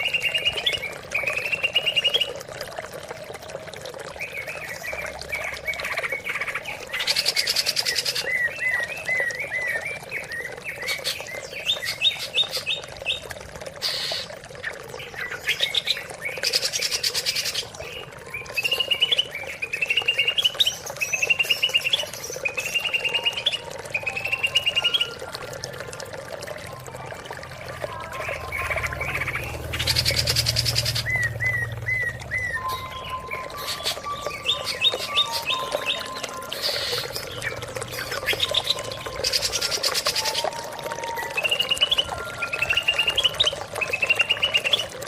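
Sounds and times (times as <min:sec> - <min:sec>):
bird singing trilled phrases: 0:00.0 - 0:02.4, 0:04.2 - 0:25.3, 0:27.5 - 0:45.0.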